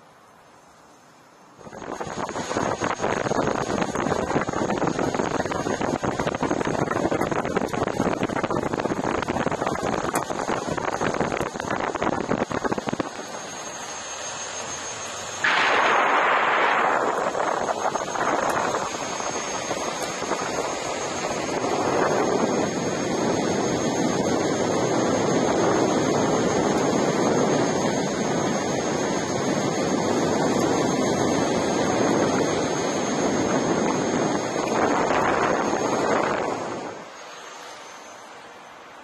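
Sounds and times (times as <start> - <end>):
wind rushing on microphone: 1.6 - 13.2, 15.4 - 37.1.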